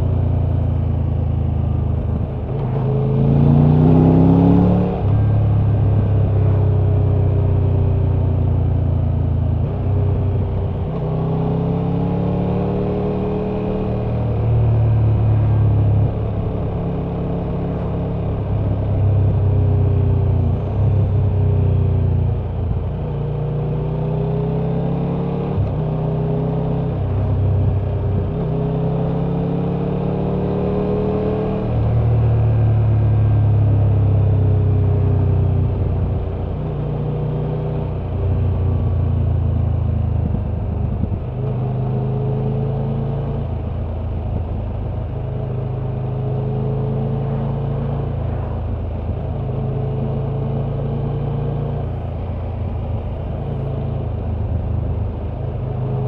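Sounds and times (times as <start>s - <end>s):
motorcycle engine and exhaust: 0.0s - 56.0s
wind and road noise: 0.0s - 56.0s.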